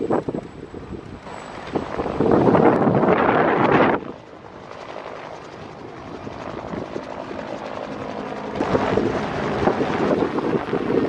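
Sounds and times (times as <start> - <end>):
helicopter flying past: 0.0 - 11.0.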